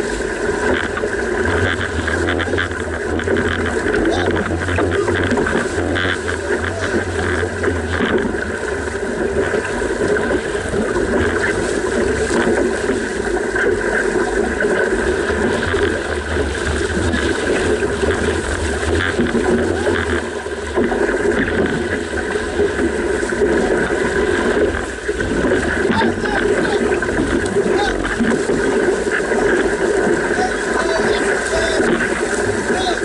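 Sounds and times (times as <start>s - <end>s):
boat rushing through water: 0.0s - 33.0s
fluttering low rumble: 0.0s - 33.0s.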